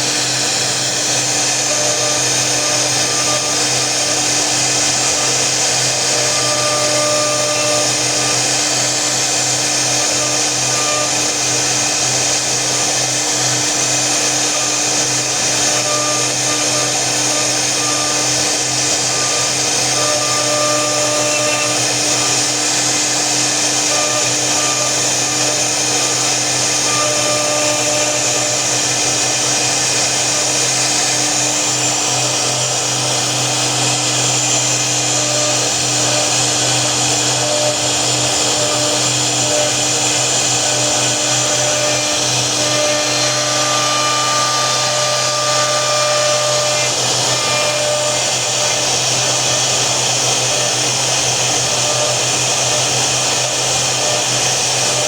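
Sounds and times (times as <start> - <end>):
router spindle motor whine: 0.0 - 55.0.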